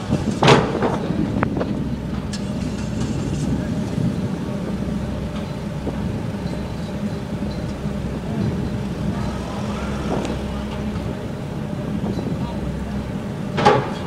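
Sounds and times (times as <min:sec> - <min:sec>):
ship engine drone: 0:00.0 - 0:14.0.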